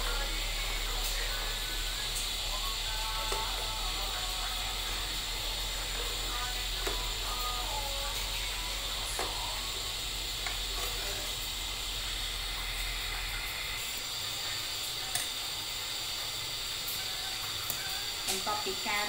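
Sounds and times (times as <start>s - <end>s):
pot hissing on gas stove: 0.0s - 19.0s.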